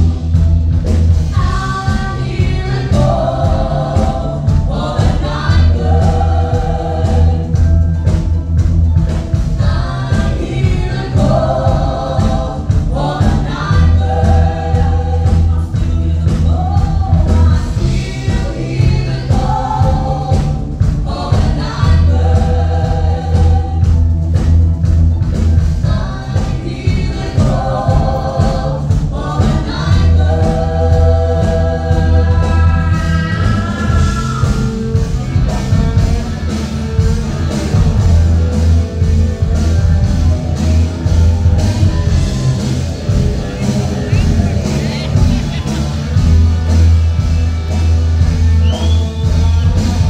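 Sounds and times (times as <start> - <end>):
live rock band playing: 0.0 - 50.0.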